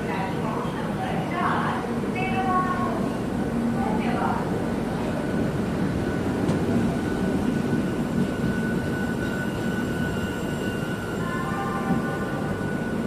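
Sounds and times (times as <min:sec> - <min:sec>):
passenger train rumbling: 0:00.0 - 0:13.0.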